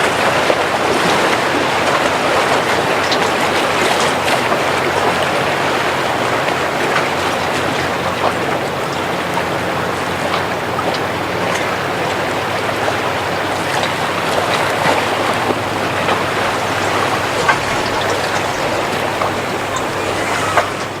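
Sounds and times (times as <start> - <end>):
boat engine hum: 0.0 - 21.0
water rushing and splashing: 0.0 - 21.0.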